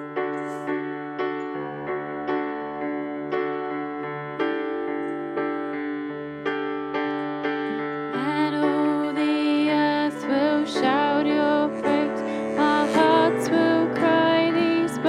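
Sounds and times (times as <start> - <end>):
electric piano chords: 0.0 - 15.0
held melody line with vibrato: 1.6 - 15.0.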